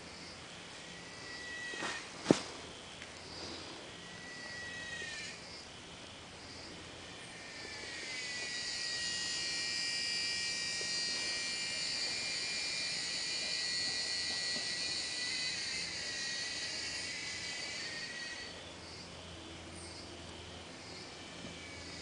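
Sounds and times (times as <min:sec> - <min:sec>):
cicada buzzing: 0:00.0 - 0:22.0.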